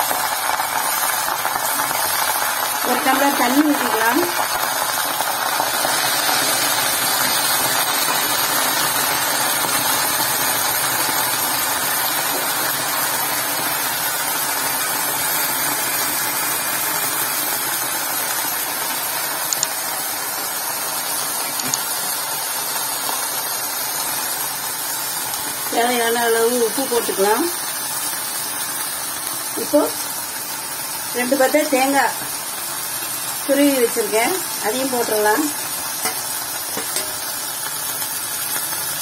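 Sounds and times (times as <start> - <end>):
water sizzling in hot pan: 0.0 - 39.0.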